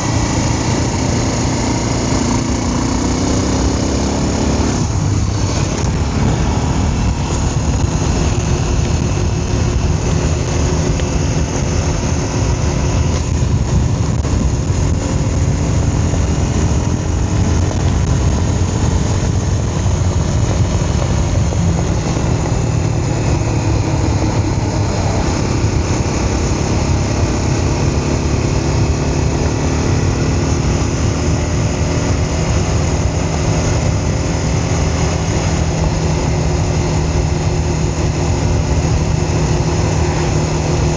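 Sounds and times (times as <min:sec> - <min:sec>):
road and wind noise: 0:00.0 - 0:40.9
vehicle engine running: 0:00.0 - 0:40.9.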